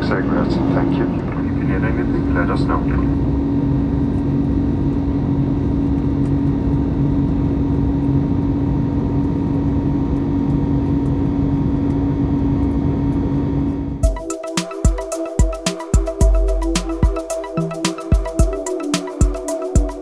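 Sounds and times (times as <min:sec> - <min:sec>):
constant low hum: 0:00.0 - 0:20.0
jet engine drone in cabin: 0:00.0 - 0:20.0.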